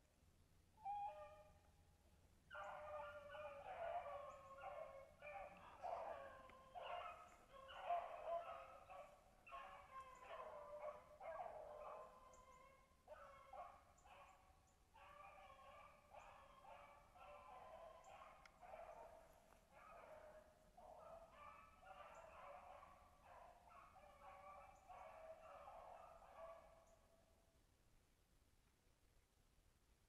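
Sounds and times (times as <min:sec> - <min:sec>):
hounds baying: 0:02.5 - 0:27.0.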